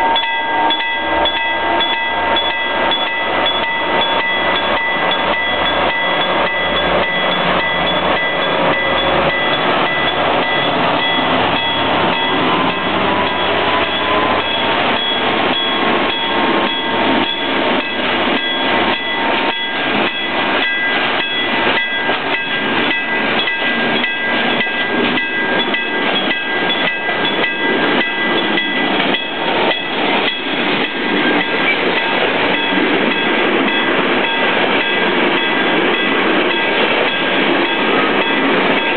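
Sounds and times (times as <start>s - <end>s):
train wheels clicking over rail joints: 0.2s - 38.9s.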